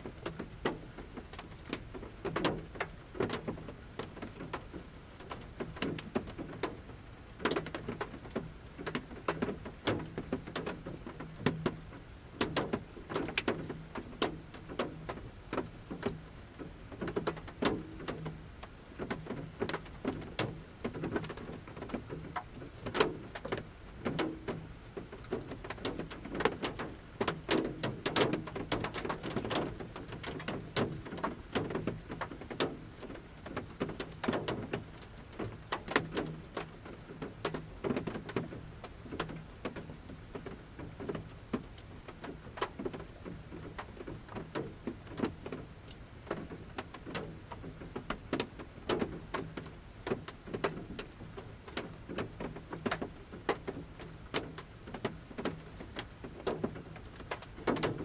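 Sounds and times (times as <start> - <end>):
light rain hiss: 0.0 - 58.0
raindrops on metal roof: 0.0 - 58.0.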